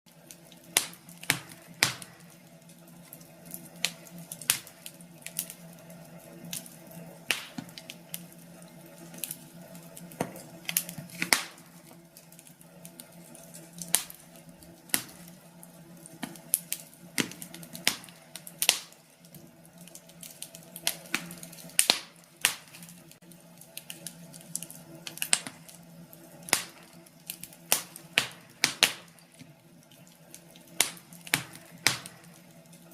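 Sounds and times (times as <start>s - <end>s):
wood fire crackling and popping: 0.1s - 32.9s.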